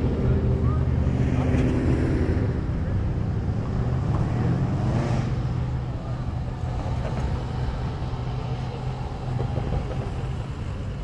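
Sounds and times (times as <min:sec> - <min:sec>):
car engines humming: 0:00.0 - 0:11.0.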